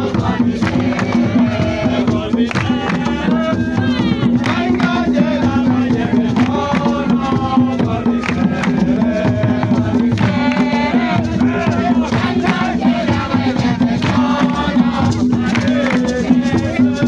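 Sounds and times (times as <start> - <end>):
group singing and chanting: 0.0 - 17.0
percussion: 0.0 - 17.0.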